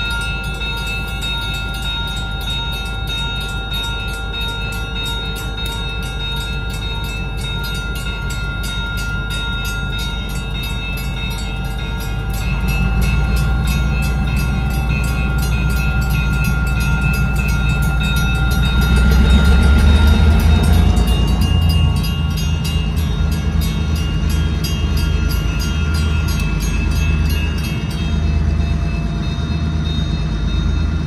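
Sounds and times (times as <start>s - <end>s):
crossing bell ringing: 0.0s - 31.0s
diesel locomotives rumbling: 0.0s - 31.0s.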